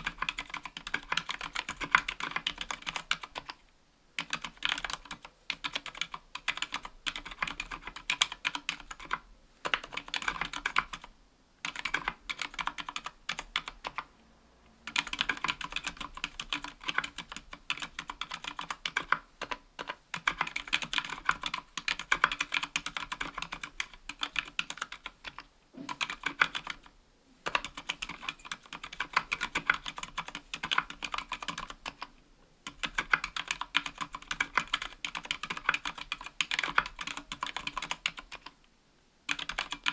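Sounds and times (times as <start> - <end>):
typing on mechanical keyboard: 0.0 - 3.6, 4.2 - 14.1, 14.9 - 38.6, 39.3 - 39.9.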